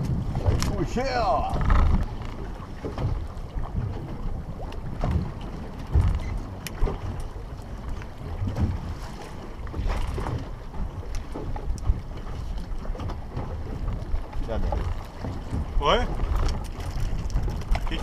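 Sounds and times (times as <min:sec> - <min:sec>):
light knocks against boat: 0:00.0 - 0:00.8, 0:01.5 - 0:18.0
choppy sea: 0:00.0 - 0:18.0
wind rumbling on microphone: 0:00.0 - 0:18.0.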